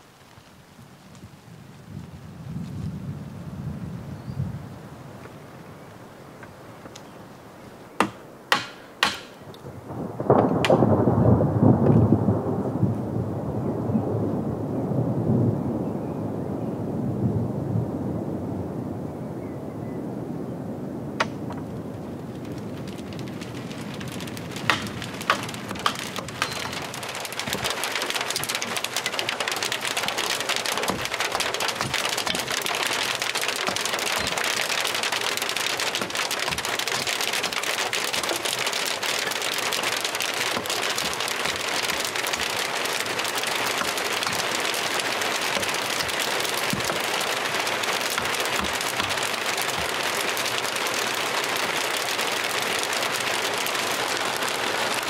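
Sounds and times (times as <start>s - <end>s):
sharp rain taps: 0.0s - 13.3s, 21.2s - 55.0s
heavy rain hissing: 0.0s - 19.2s, 20.0s - 55.0s.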